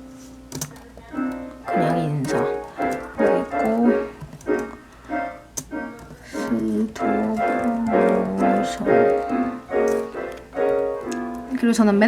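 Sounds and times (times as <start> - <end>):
piano-like keyboard music: 0.0 - 12.0.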